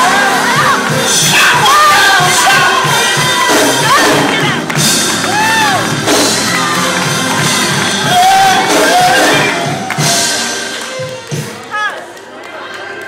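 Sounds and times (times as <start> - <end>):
congregation shouting and whooping: 0.0 - 11.9
gospel music with driving beat: 0.0 - 11.9.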